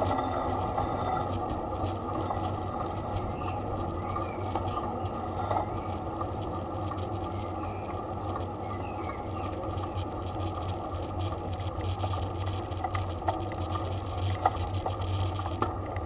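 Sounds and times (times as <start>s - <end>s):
bicycle tyres rumbling on road: 0.0s - 15.6s.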